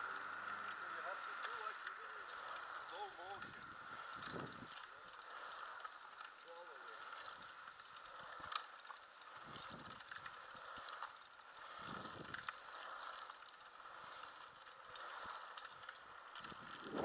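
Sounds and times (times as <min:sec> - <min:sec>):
scooter wheels rolling on asphalt: 0:00.0 - 0:17.0.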